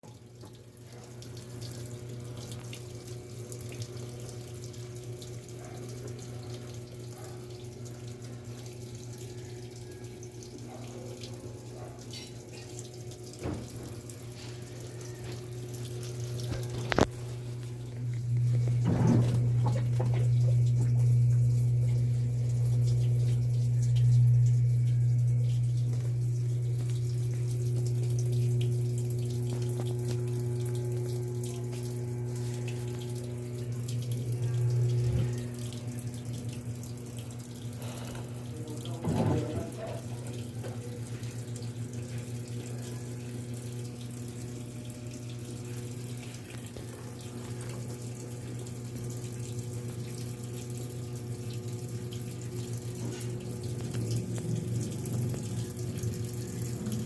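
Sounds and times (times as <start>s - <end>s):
electrical hum: 0.0s - 57.0s
water running into washing machine: 0.0s - 57.0s.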